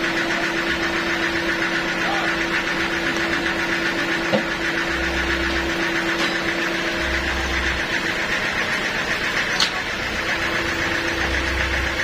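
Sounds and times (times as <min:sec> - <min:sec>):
sawmill machinery humming: 0:00.0 - 0:12.0.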